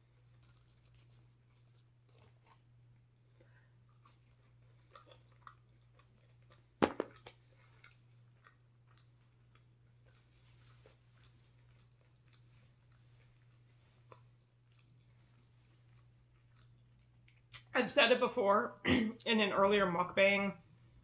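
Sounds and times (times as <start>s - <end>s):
chewing fries: 0.0s - 17.7s
low steady hum: 0.0s - 21.0s.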